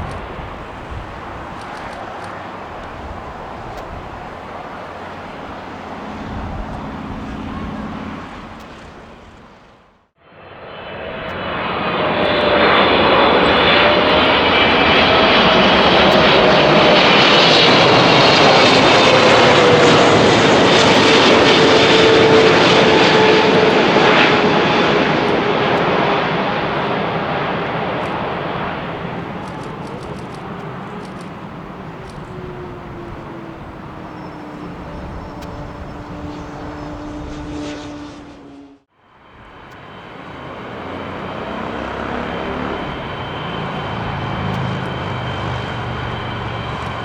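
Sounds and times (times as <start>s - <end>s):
jet airliner passing: 0.0s - 47.0s.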